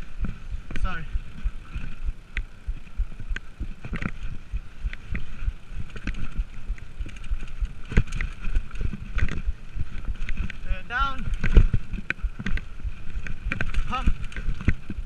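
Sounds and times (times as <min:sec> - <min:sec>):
bike knocking and rattling: 0:00.0 - 0:15.0.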